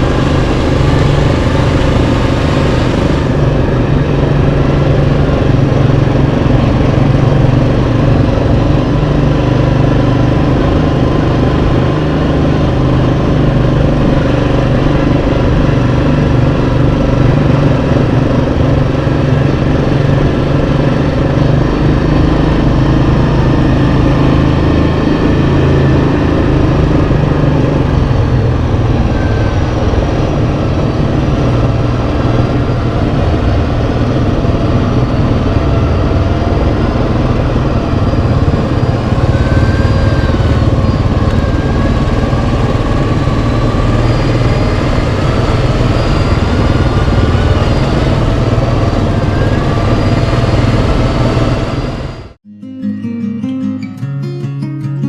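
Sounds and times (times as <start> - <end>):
quad bike engine running: 0.0 - 52.4.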